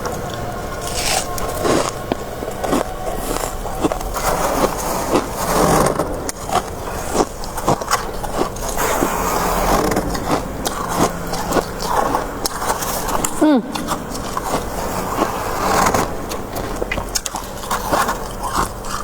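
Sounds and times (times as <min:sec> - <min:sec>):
frost crunching: 0:00.0 - 0:19.0
rough scraping: 0:00.0 - 0:19.0.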